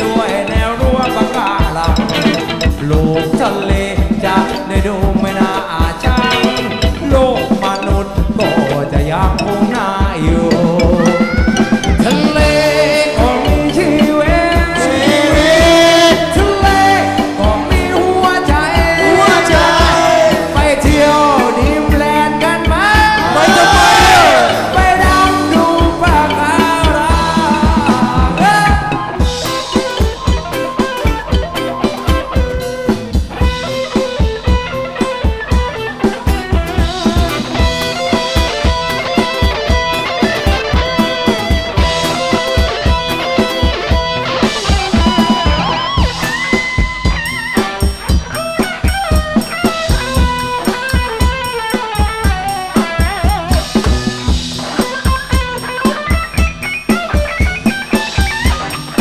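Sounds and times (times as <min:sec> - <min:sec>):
drum kit beat: 0:00.0 - 0:59.0
guitar: 0:00.0 - 0:59.0.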